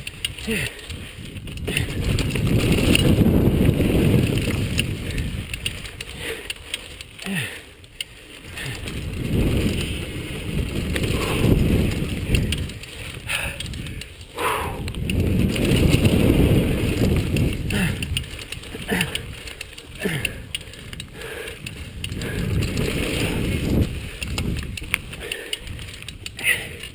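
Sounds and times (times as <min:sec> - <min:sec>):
wind rushing over microphone: 0:00.0 - 0:07.6, 0:08.4 - 0:26.9
bike tyres and frame rattling: 0:00.0 - 0:26.9.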